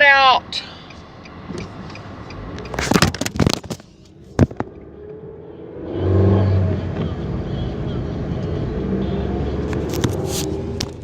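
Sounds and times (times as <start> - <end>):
car engine accelerating: 0.5 - 3.0, 4.1 - 11.0.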